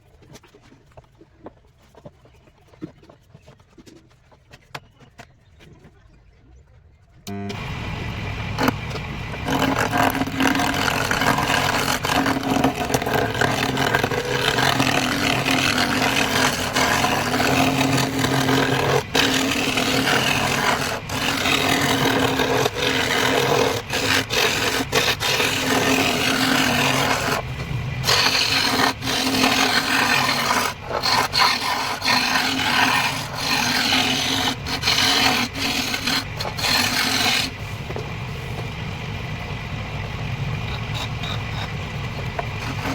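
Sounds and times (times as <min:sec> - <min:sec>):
wood lathe humming: 0:07.3 - 0:42.9
tool scraping spinning wood: 0:07.5 - 0:42.9.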